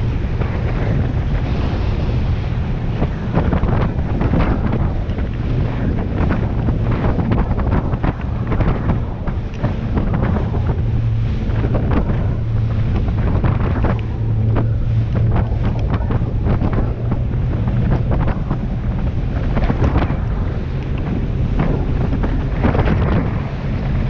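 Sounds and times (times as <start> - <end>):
boat engine droning: 0.0 - 24.0
hits of wind and spray: 0.0 - 24.0
wind buffeting microphone: 0.0 - 24.0.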